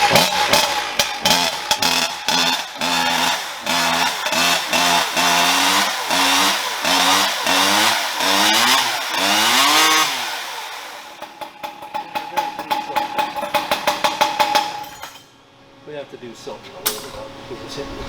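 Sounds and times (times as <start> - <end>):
chainsaw revving: 0.0 - 14.9.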